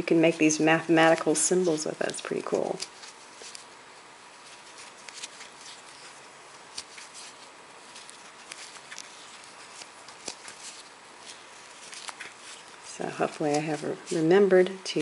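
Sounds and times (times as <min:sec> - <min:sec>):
steady low hiss: 0:00.0 - 0:15.0
fingers handling yarn: 0:00.7 - 0:14.4
crochet hook scratching yarn: 0:00.8 - 0:14.4.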